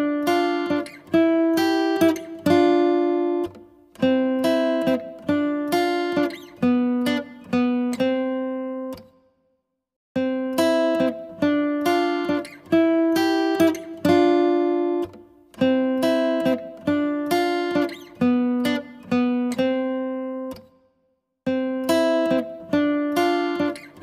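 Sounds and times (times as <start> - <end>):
plucked acoustic guitar melody: 0.0 - 9.2, 10.2 - 20.8, 21.5 - 24.0.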